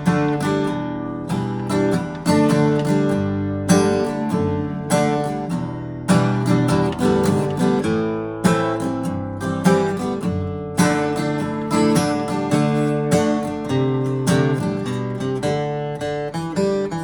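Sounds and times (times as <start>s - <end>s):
acoustic guitar strummed: 0.0s - 17.0s.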